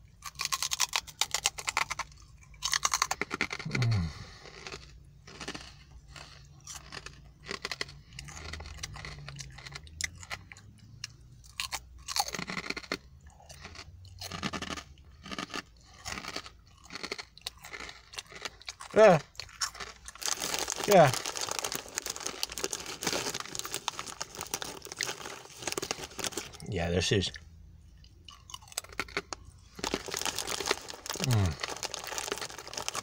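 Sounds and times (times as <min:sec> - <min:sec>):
crunching crisp pork scratchings: 0:00.1 - 0:27.4, 0:28.1 - 0:33.0
chewing: 0:00.3 - 0:26.7, 0:27.3 - 0:33.0.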